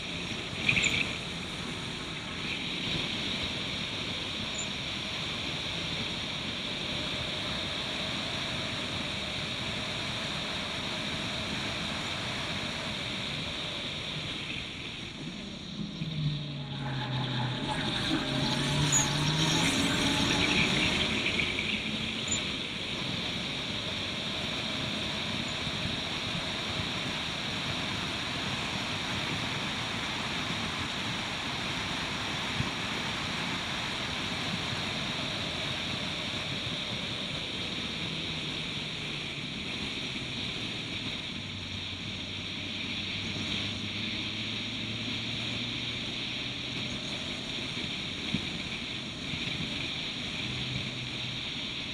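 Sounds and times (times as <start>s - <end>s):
race car engine at speed: 0.0s - 51.9s
wind and road noise: 0.0s - 51.9s.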